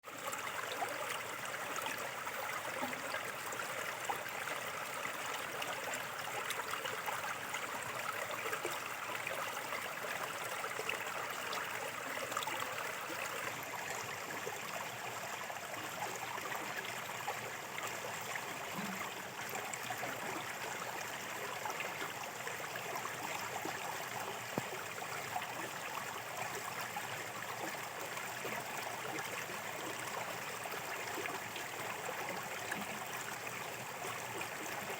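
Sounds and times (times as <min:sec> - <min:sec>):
water babbling over stones: 0:00.0 - 0:34.9.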